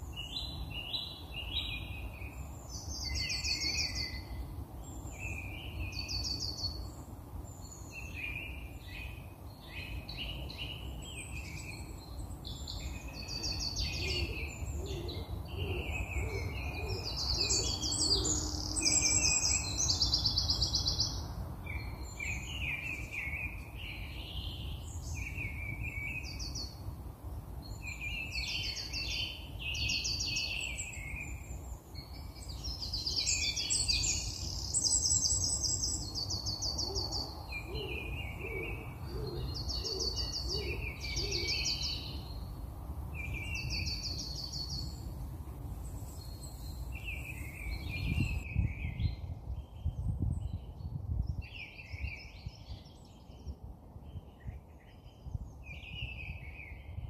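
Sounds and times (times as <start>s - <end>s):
songbirds singing and calling: 0.0s - 57.0s.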